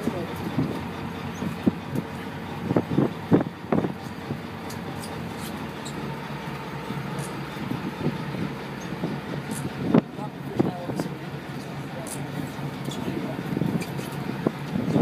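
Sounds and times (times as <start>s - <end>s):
boat rumble: 0.0s - 15.0s
wind: 0.0s - 15.0s.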